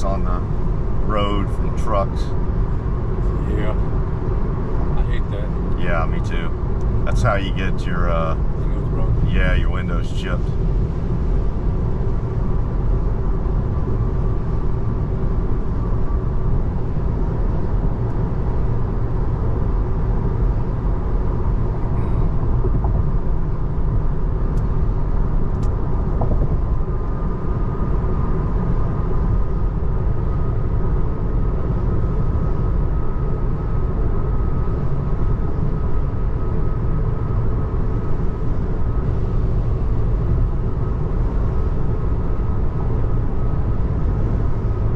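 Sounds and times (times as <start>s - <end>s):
road and tyre noise in car: 0.0s - 44.9s.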